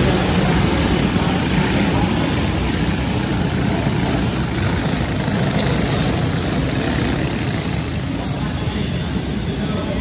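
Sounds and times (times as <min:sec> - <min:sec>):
racing kart engines droning: 0:00.0 - 0:10.0.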